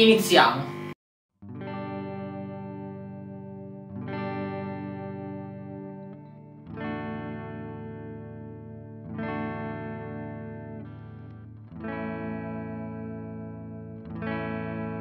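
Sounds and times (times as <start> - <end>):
electric guitar strumming chords: 0.0 - 15.0.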